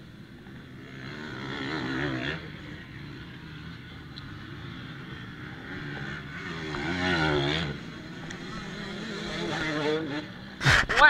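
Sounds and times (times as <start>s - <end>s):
motorbike engines droning: 0.0s - 11.0s.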